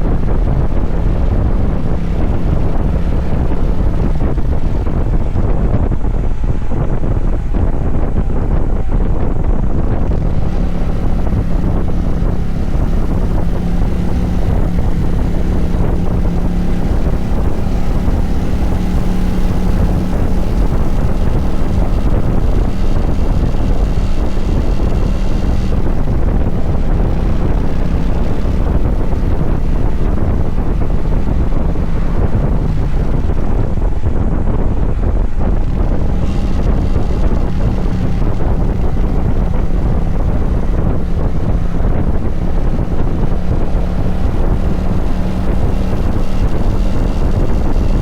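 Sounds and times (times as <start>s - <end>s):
motorcycle engine humming: 0.0s - 48.0s
wind rumble on microphone: 0.0s - 48.0s.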